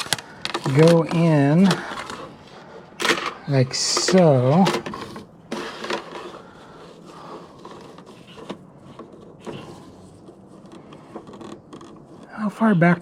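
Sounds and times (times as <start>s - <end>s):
plastic pieces scraping into wood: 0.0s - 12.3s.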